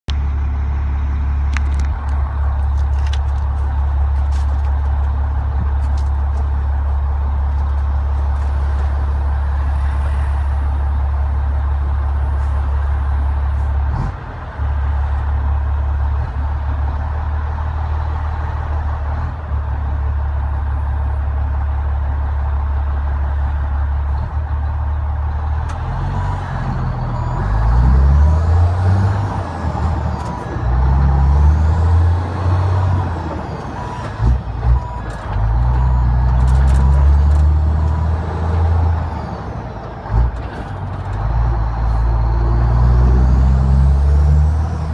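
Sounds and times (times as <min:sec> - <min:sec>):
truck diesel engine drone: 0:00.1 - 0:44.9.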